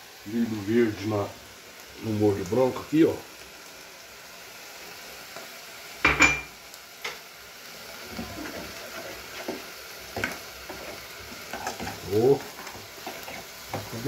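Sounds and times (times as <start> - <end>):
meat sizzling in a pan: 0.0 - 14.0.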